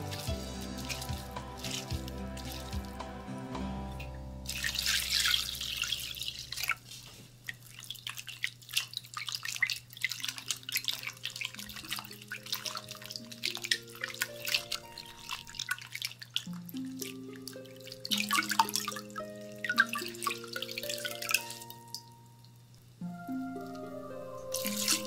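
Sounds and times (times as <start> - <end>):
hands squelching in water: 0.0 - 3.0, 4.5 - 21.8, 24.5 - 25.0
water pouring into glass bowl: 0.0 - 3.0, 4.5 - 6.8, 7.5 - 22.2, 24.4 - 25.0.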